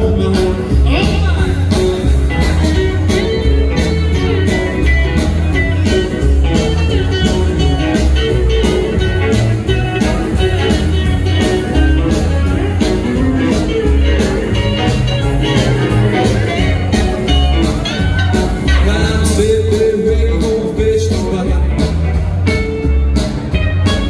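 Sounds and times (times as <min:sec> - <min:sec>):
lap steel guitar: 0:00.0 - 0:24.0
rockabilly band playing: 0:00.0 - 0:24.0.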